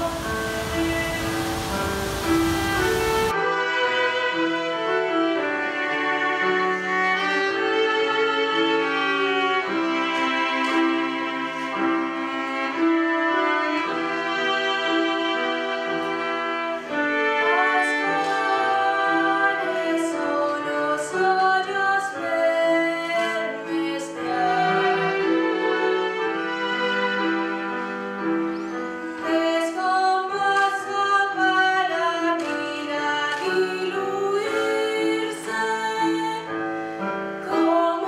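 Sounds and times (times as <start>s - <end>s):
slow bowed string music: 0.0s - 38.0s.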